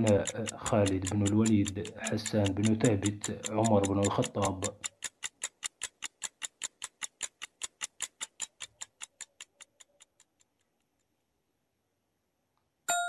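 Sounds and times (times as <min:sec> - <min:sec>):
clock ticking quickly: 0:00.0 - 0:10.7.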